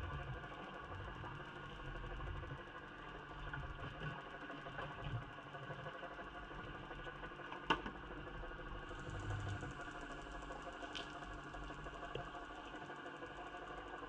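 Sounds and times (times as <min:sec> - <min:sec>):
muffled underwater mechanical hum: 0:00.0 - 0:14.0.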